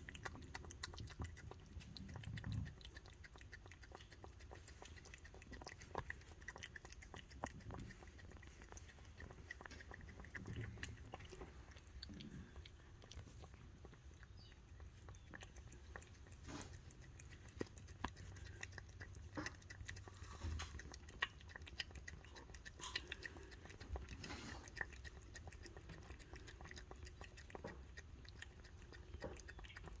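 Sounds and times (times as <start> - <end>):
cat licking and chewing: 0.0 - 30.0.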